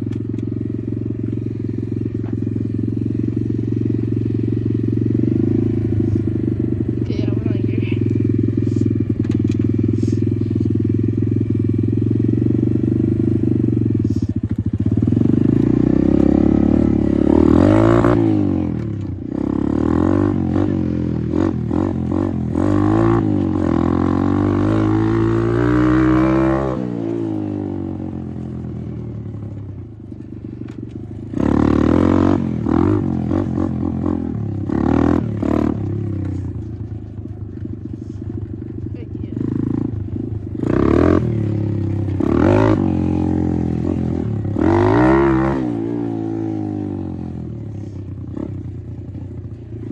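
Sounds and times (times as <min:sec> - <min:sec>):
dirt bike engine revving: 0:00.0 - 0:48.7.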